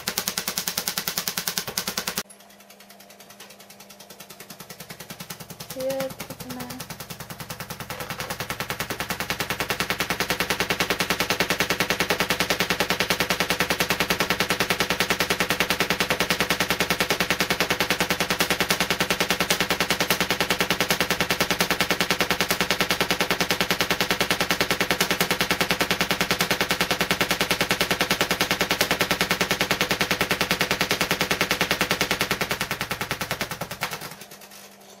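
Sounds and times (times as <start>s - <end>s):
tesla coil rattling buzz: 3.6s - 34.8s.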